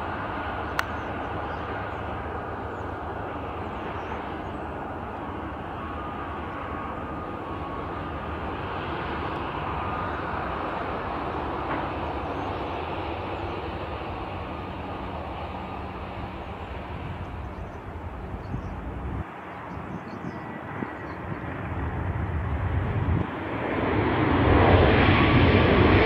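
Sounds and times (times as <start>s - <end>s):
jet airliner engine rush: 0.0s - 26.0s.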